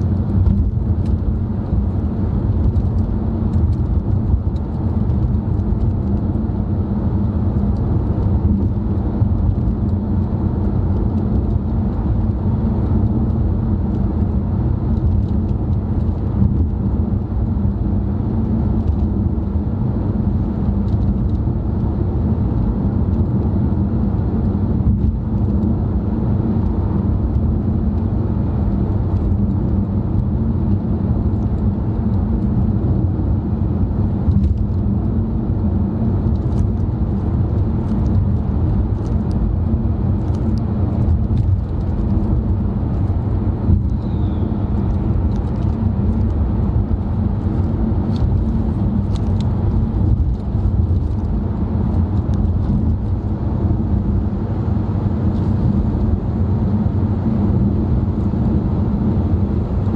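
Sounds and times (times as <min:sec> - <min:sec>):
car cabin road drone: 0:00.0 - 0:59.9.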